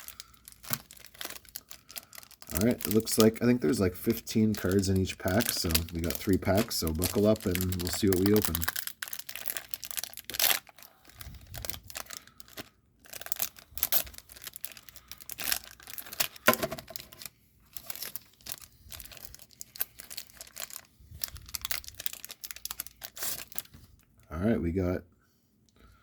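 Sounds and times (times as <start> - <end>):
wrapper tearing and crinkling: 0.0 - 24.1.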